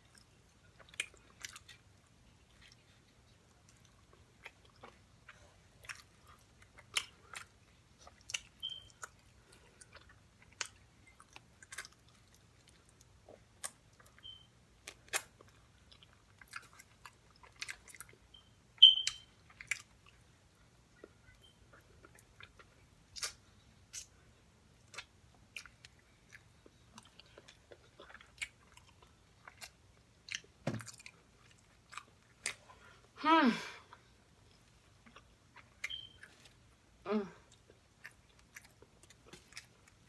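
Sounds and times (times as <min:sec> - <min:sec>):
person chewing with mouth smacks: 0:00.0 - 0:33.1, 0:33.9 - 0:40.0.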